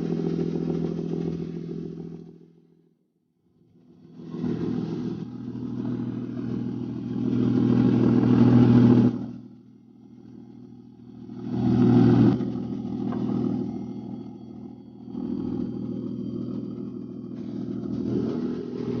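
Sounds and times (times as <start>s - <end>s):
engine humming: 0.0s - 2.8s, 3.6s - 19.0s.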